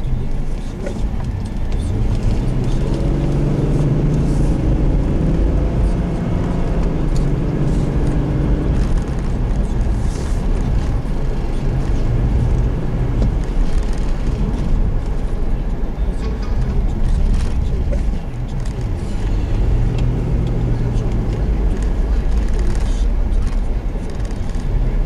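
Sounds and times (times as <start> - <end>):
fire engine running: 0.0 - 25.0
low road rumble: 0.0 - 25.0.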